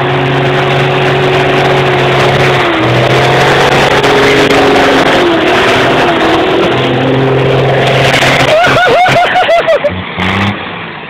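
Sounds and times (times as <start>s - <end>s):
rumble and rattle: 0.0s - 9.4s
truck engine running loud: 0.0s - 11.0s.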